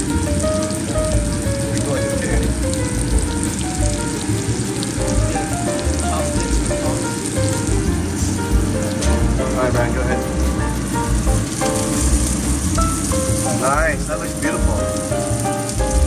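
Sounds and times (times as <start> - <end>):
background music: 0.0 - 16.0
mushrooms sizzling in butter: 0.0 - 16.0.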